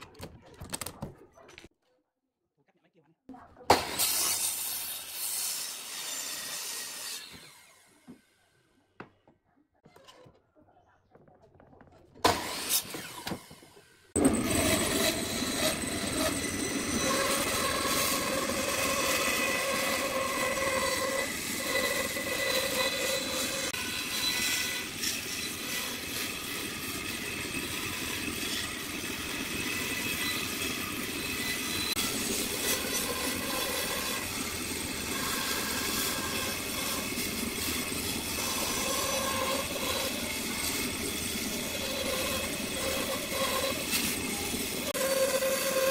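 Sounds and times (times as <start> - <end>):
bandsaw cutting wood: 3.7 - 8.2, 12.2 - 13.6, 14.2 - 45.9.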